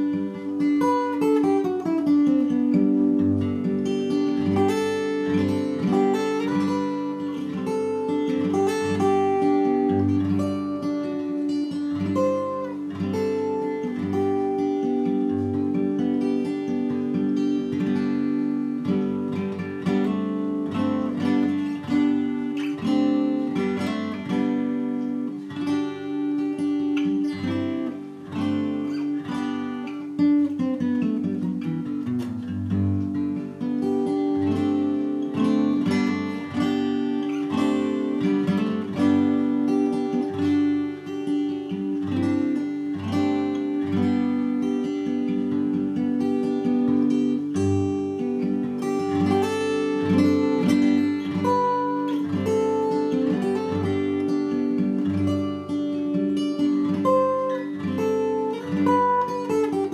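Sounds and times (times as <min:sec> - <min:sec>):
fingerpicked acoustic guitar: 0:00.0 - 0:59.9.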